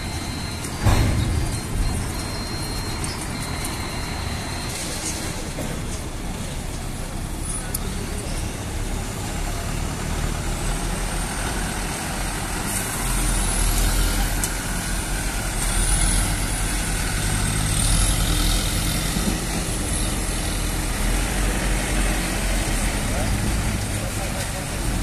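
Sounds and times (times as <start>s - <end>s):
diesel truck engine rumbling: 0.0s - 25.0s.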